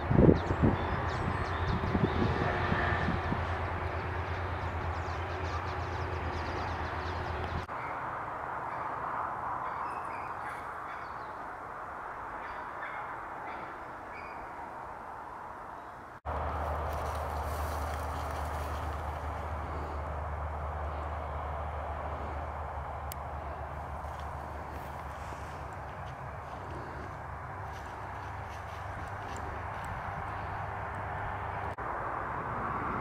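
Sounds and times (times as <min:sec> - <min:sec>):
wind rumbling on microphone: 0:00.0 - 0:07.7, 0:14.1 - 0:33.0.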